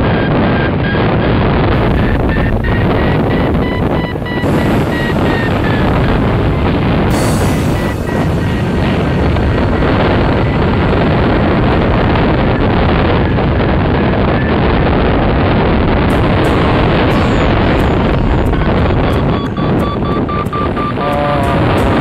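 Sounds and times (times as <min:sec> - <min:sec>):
wind buffeting microphone: 0:01.0 - 0:22.0.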